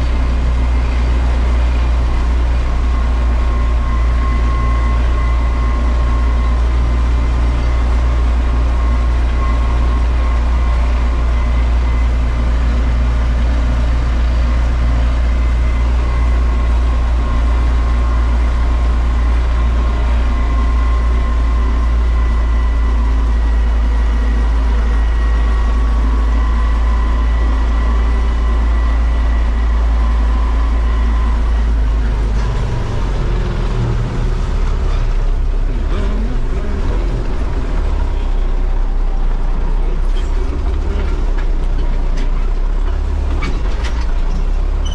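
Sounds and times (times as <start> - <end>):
diesel engine drone: 0.0 - 44.9.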